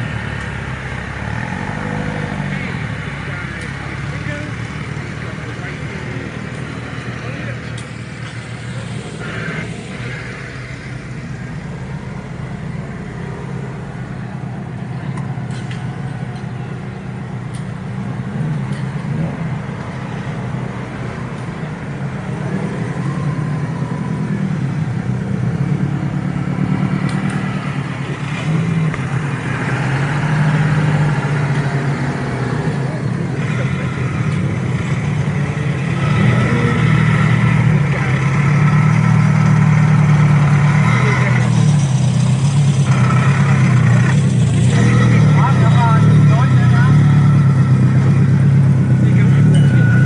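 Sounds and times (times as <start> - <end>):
car engines rumbling: 0.0 - 50.0.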